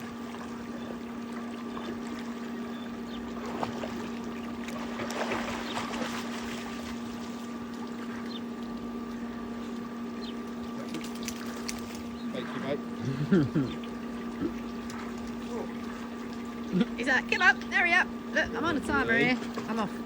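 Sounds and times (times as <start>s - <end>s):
water sloshing and splashing: 0.0s - 12.9s, 13.6s - 20.0s
dog swimming: 0.0s - 13.0s, 13.8s - 17.4s
steady hum: 0.0s - 20.0s.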